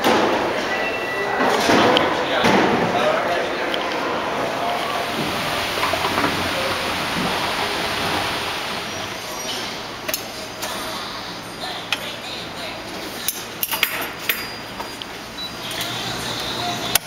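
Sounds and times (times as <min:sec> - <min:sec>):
indoor public space rushing noise: 0:00.0 - 0:17.0.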